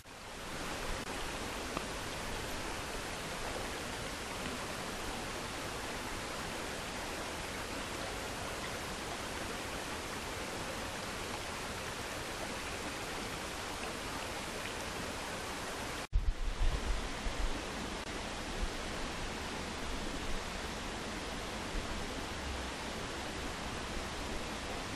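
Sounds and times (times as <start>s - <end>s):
stream flowing over stones: 0.0s - 24.9s.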